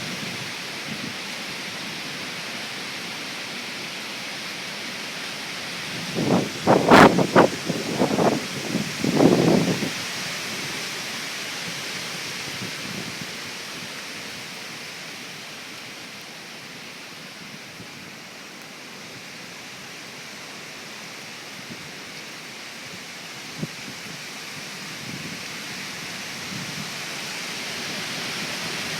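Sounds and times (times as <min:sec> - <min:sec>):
heavy rain: 0:00.0 - 0:28.9
wind: 0:00.0 - 0:28.9.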